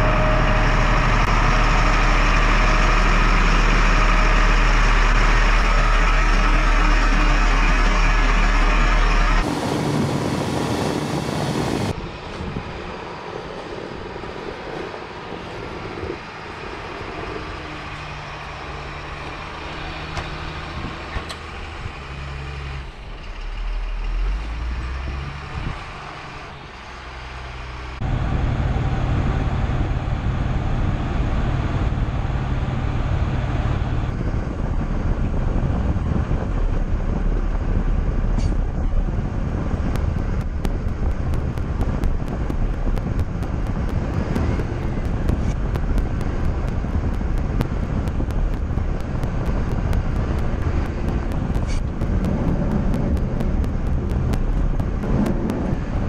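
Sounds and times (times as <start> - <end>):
diesel truck engine running: 0.0 - 14.3, 15.3 - 56.0.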